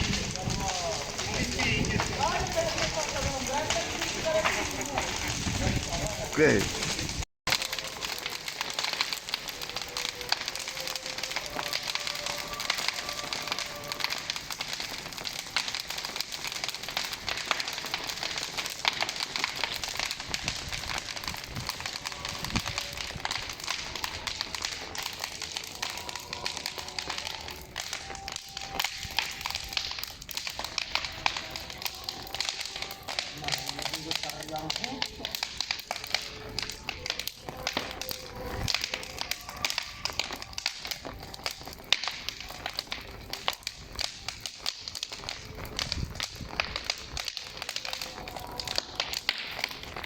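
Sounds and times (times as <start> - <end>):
bonfire crackling and popping: 0.0 - 50.0.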